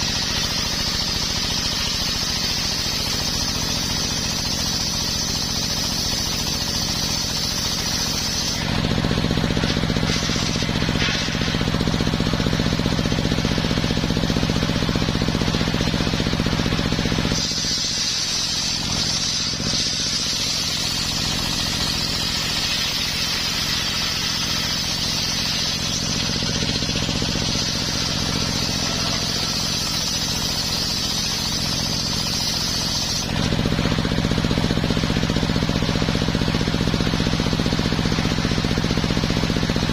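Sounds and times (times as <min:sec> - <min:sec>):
saw blade cutting wood: 0:00.0 - 0:35.7
engine running steadily: 0:00.0 - 0:39.9.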